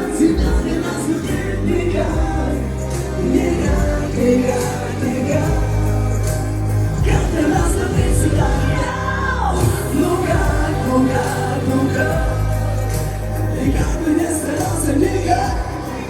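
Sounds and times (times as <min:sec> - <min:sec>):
person singing pop song: 0:00.0 - 0:16.0
steady bass line: 0:00.0 - 0:16.0.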